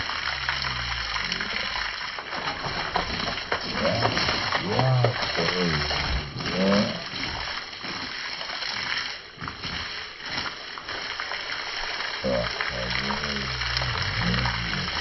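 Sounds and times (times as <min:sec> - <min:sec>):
hose water spraying and splashing: 0:00.0 - 0:15.0.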